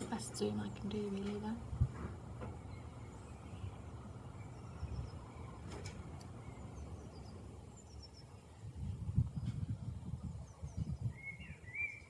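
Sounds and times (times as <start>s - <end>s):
birds chirping: 0.0s - 8.6s, 9.8s - 12.0s
low outdoor rumble: 0.0s - 11.2s.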